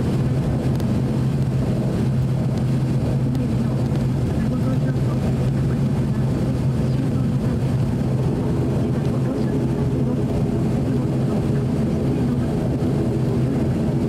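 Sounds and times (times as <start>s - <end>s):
propeller engine drone: 0.0s - 14.0s.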